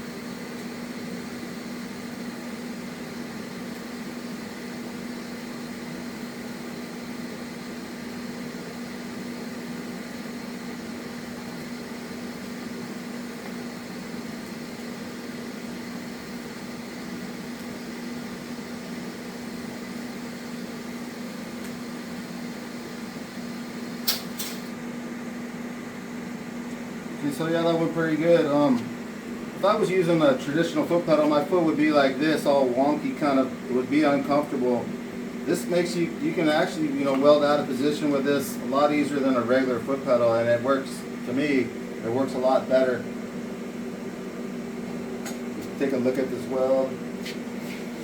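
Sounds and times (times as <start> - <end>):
welder humming: 0.0 - 48.0.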